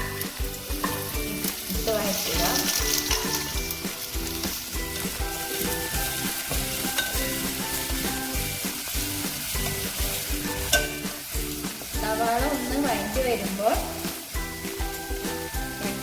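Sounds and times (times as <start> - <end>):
background music with beat: 0.0 - 16.0
onions sizzling in a pan: 0.0 - 16.0.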